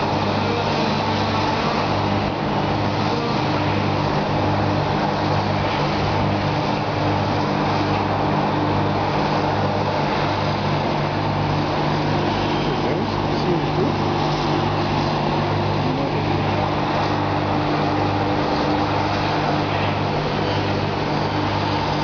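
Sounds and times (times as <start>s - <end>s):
large engine humming: 0.0s - 22.0s
road noise: 0.0s - 22.0s.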